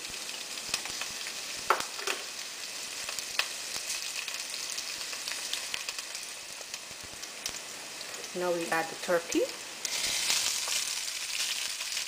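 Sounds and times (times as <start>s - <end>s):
oil crackling and popping: 0.0s - 12.0s
onions sizzling in oil: 0.0s - 12.0s.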